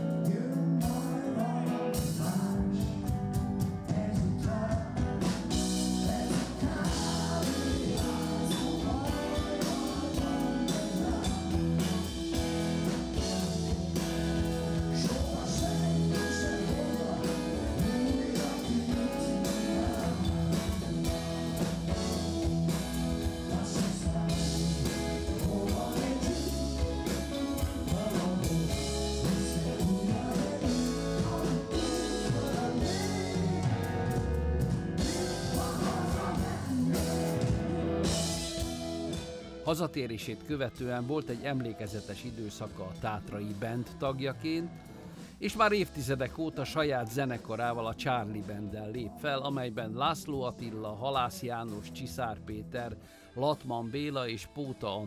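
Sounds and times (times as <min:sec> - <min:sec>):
electric guitar: 0:00.0 - 0:46.2
drums: 0:00.0 - 0:55.0
male lead singer: 0:00.0 - 0:55.0.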